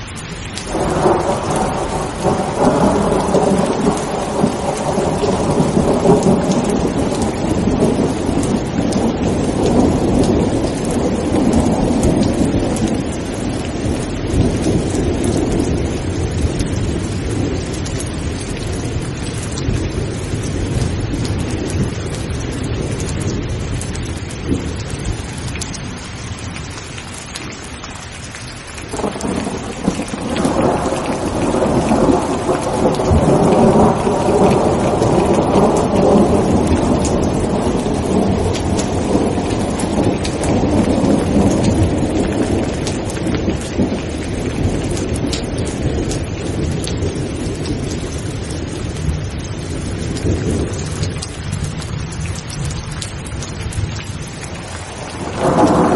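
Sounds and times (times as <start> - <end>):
heavy rain falling: 0.0 - 55.9
rolling thunder: 0.6 - 26.7, 28.8 - 55.9.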